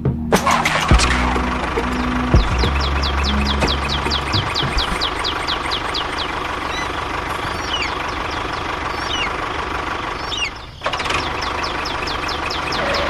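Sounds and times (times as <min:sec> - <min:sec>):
bird chirps: 0:00.5 - 0:13.0
small engine running: 0:00.6 - 0:13.0.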